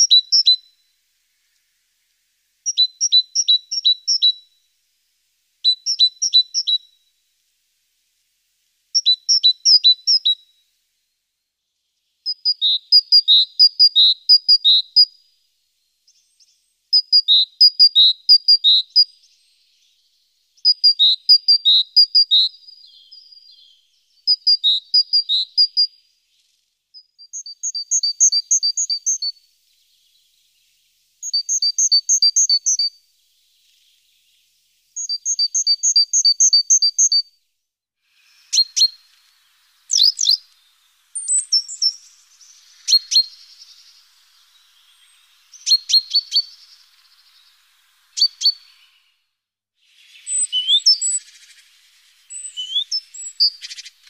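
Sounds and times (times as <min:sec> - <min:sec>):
songbird singing: 0:00.0 - 0:37.4, 0:38.1 - 0:54.0.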